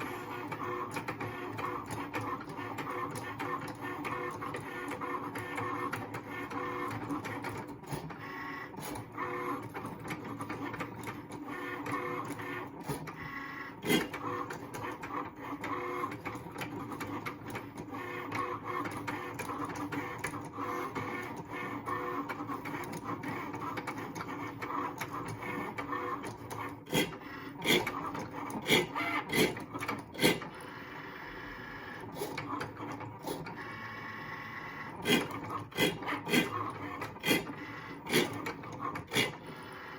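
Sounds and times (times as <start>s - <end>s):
cutting machine motors whirring: 0.0s - 39.9s.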